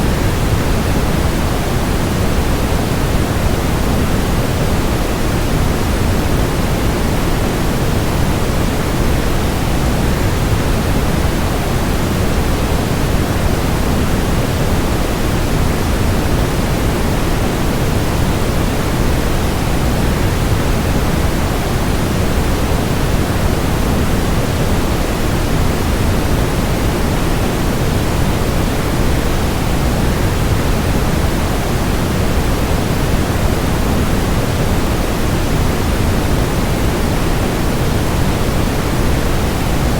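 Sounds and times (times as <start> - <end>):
white noise: 0.0 - 39.9.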